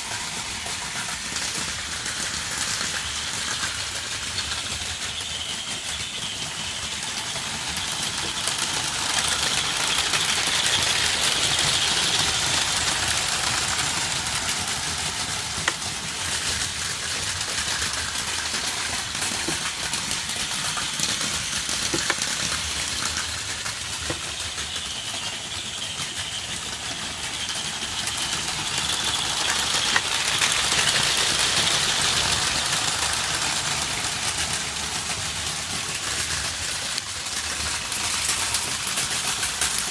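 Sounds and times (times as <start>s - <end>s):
toy train motors whirring: 0.0s - 39.9s
wheel clatter: 0.0s - 39.9s.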